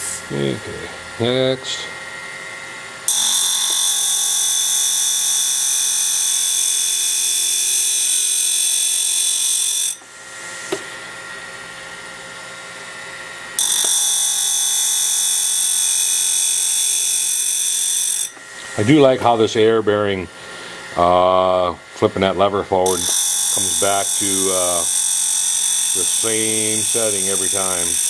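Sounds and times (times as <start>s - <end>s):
faint motor hum: 0.0s - 28.0s.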